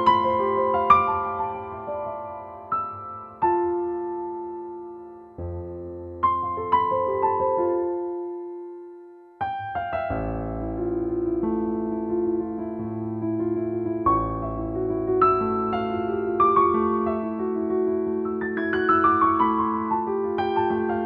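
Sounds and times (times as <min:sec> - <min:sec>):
solo piano piece: 0:00.0 - 0:21.0.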